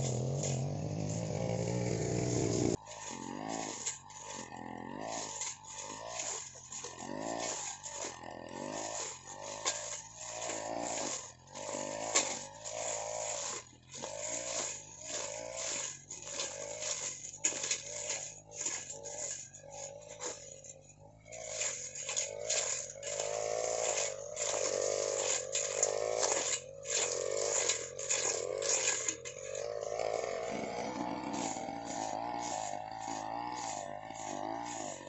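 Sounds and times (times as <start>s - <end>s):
brush cutter engine revving: 0.0s - 35.0s.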